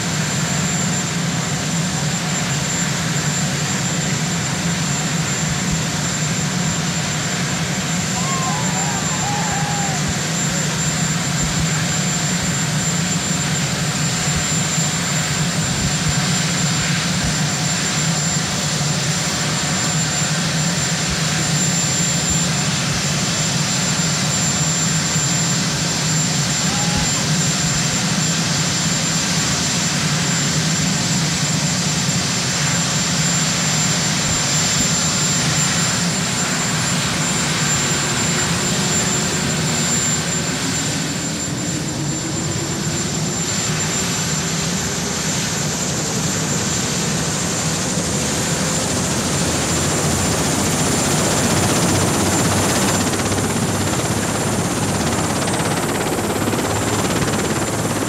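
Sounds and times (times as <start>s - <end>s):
helicopter engine whine: 0.0s - 58.0s.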